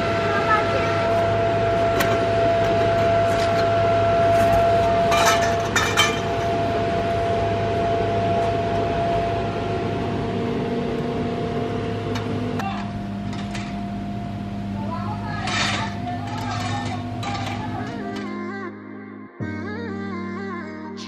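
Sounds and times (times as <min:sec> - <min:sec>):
electric air blower running: 0:00.0 - 0:18.2.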